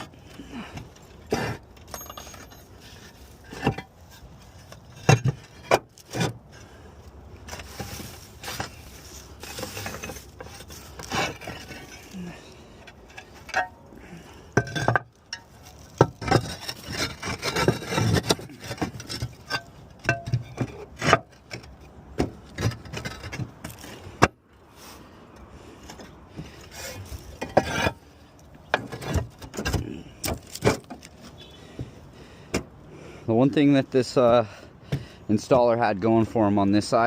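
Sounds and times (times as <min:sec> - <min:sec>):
roof tiles scraping and knocking: 0:00.0 - 0:24.4, 0:25.8 - 0:32.7.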